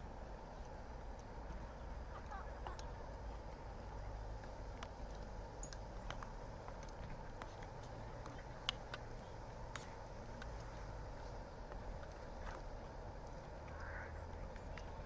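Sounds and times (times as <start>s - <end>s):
low steady rumble: 0.0s - 15.0s
campfire crackling and popping: 0.1s - 15.0s.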